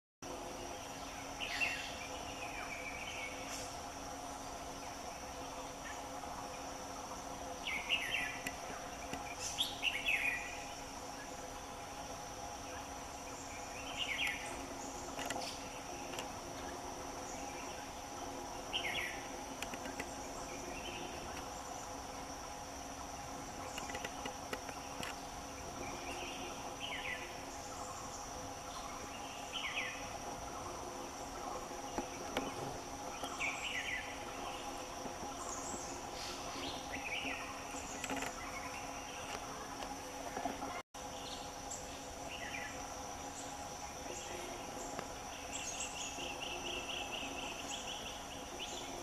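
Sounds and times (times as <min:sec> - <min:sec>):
high-pitched insect chorus: 0:00.3 - 0:49.0.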